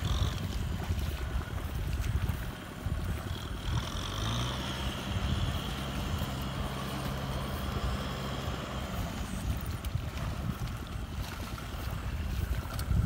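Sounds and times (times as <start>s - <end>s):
tractor engine running: 0.0s - 13.0s
wind rumbling on microphone: 0.0s - 13.0s.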